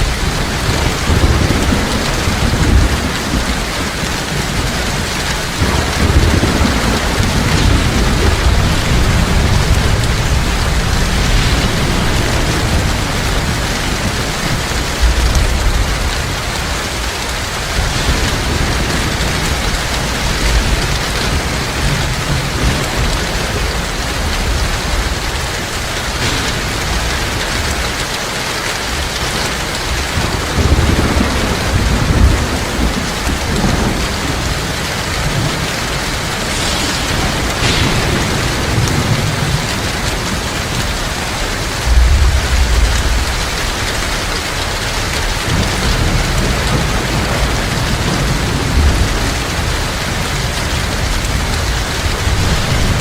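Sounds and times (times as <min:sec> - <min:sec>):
heavy rain falling: 0:00.0 - 0:53.0
thunder rumbling: 0:00.0 - 0:53.0.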